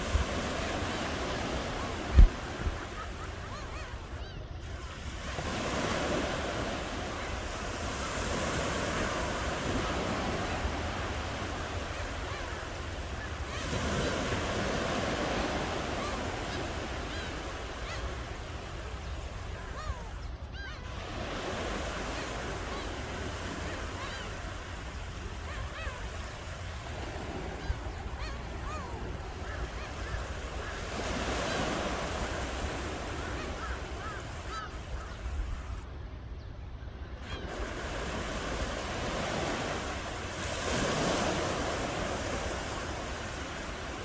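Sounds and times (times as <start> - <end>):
ocean waves breaking: 0.0 - 36.0, 37.0 - 44.0.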